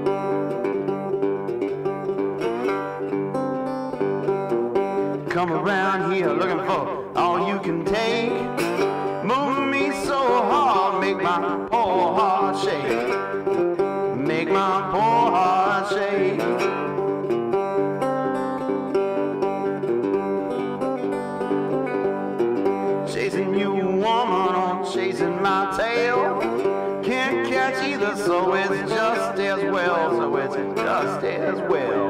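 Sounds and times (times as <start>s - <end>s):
country music with plucked strings: 0.0s - 32.0s.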